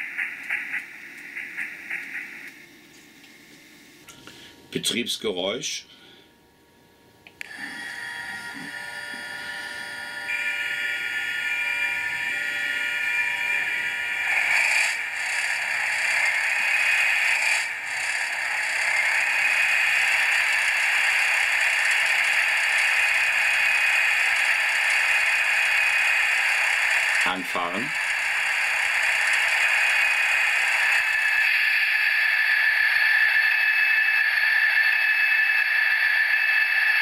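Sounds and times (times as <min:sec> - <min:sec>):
model locomotive engine sound: 0:00.0 - 0:04.0, 0:07.4 - 0:37.0.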